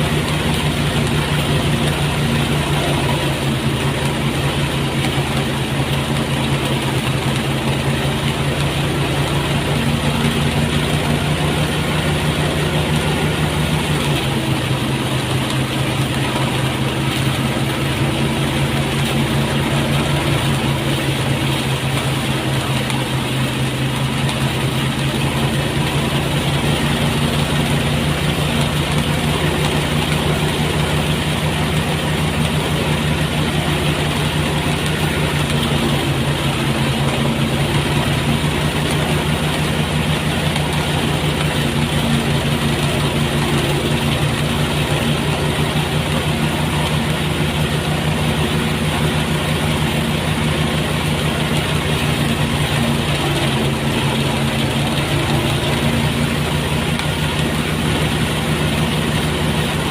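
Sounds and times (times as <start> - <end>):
rice thresher engine running: 0.0 - 59.9.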